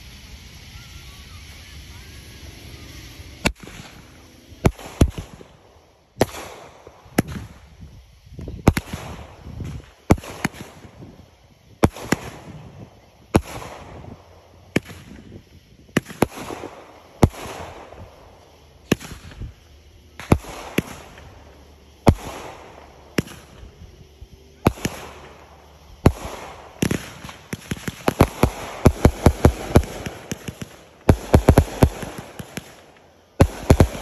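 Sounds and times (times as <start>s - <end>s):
fireworks bangs: 0.0s - 34.0s
fireworks hissing crackle: 0.0s - 34.0s.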